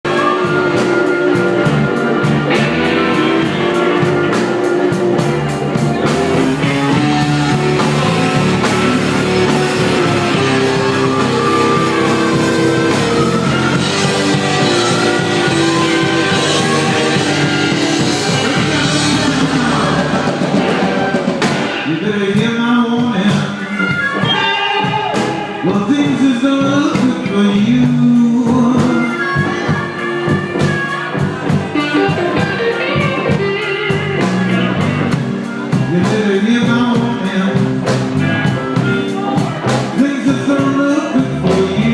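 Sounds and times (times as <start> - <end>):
live blues band playing: 0.0 - 41.9
person singing: 0.0 - 41.9
drums beating: 0.1 - 41.9.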